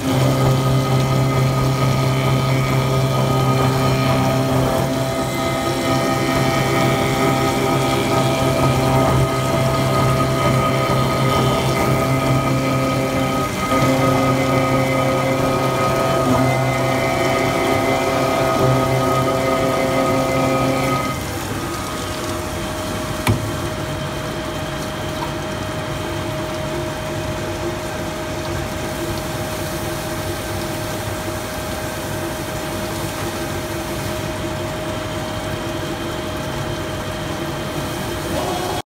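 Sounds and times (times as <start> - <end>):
milling machine whine: 0.0 - 38.8.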